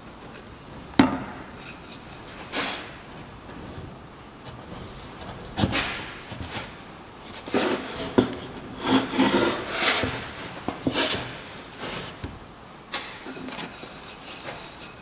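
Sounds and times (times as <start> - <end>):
wood scraping strokes: 1.6 - 3.7, 4.5 - 15.0.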